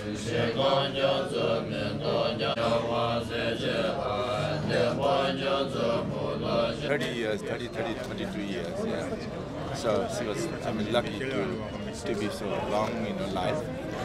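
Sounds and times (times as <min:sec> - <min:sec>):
men chanting prayers: 0:00.0 - 0:14.0.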